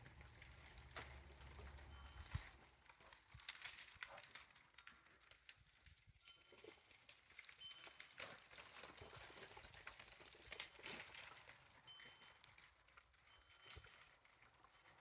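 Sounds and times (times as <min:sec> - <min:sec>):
meltwater dripping from branches: 0:00.0 - 0:15.0.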